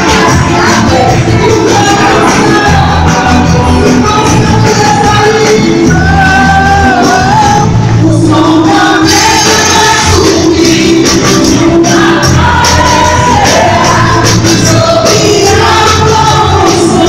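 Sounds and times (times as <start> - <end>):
amplified band playing: 0.0 - 17.0
women singing gospel: 0.0 - 17.0.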